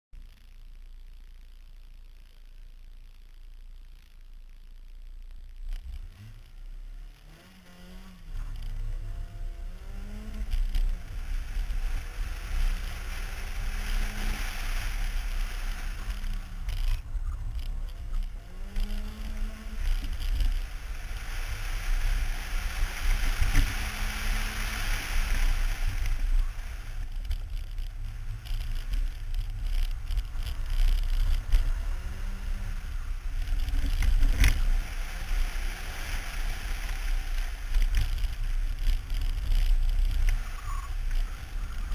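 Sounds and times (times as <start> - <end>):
wind and road noise: 2.2 - 41.9
car engine revving through gears: 5.7 - 41.9.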